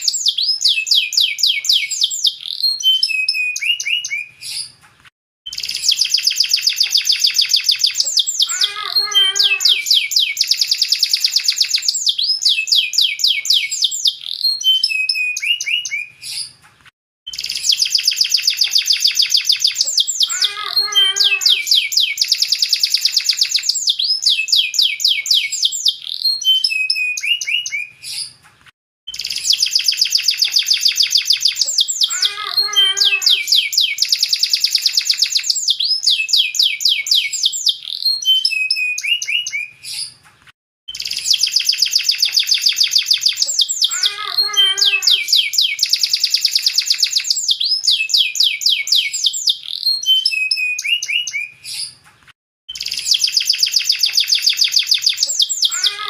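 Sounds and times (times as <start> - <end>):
canary singing fast trills: 5.5 - 16.5, 17.3 - 28.4, 29.1 - 40.2, 40.9 - 52.0, 52.7 - 56.0.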